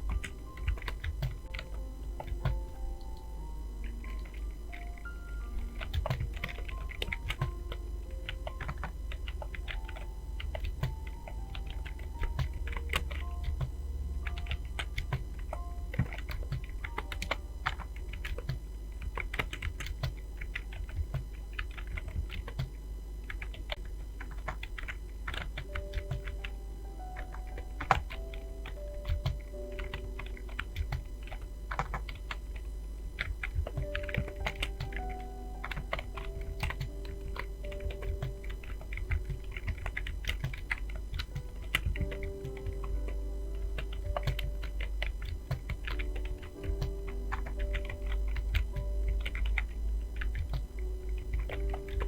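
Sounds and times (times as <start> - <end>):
faint background music: 0.0 - 52.0
fast typing on keyboard: 0.0 - 52.0
low steady hum: 0.0 - 52.0.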